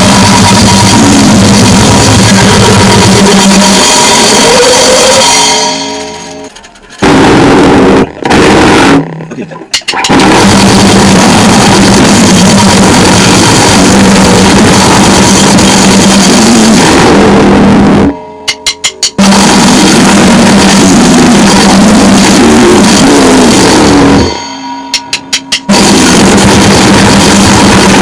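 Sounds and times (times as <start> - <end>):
distorted drums and guitar noise: 0.0 - 28.0
droning tone: 0.0 - 28.0.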